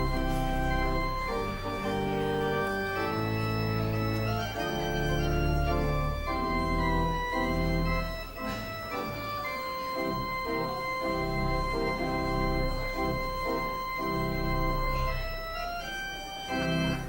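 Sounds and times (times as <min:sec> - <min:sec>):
slow keyboard music: 0:00.0 - 0:17.0.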